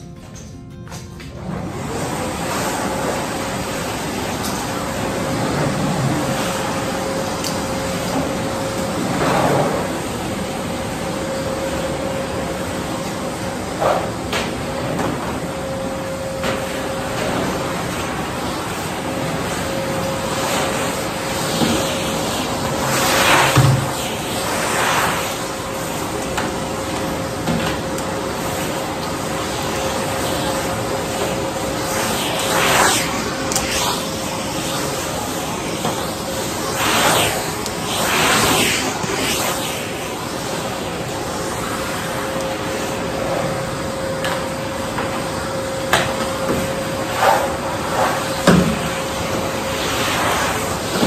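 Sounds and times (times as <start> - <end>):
vacuum cleaner running: 0.0 - 51.0.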